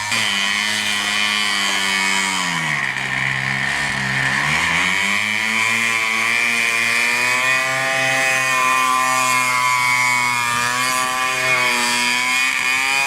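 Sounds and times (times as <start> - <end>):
atv engine at high revs: 0.0 - 13.0.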